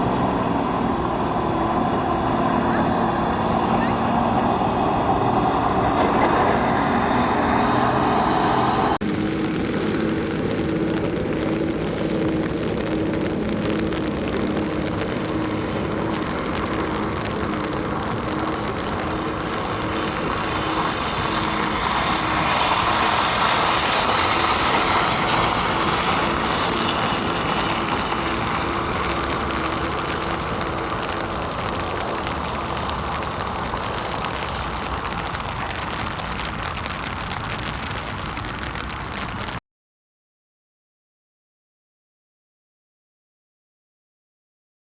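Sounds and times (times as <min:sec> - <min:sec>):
road traffic noise: 0:00.0 - 0:39.6.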